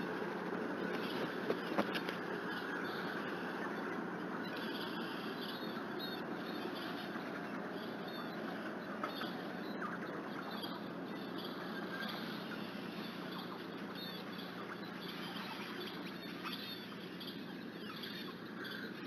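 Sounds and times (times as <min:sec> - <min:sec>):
steady low hum: 0:00.0 - 0:19.0
faint high chirps: 0:01.9 - 0:19.0.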